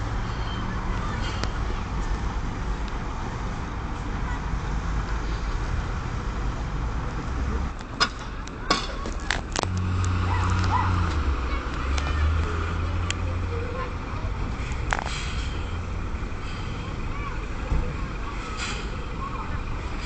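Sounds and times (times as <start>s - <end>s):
truck diesel engine: 0.0s - 20.0s.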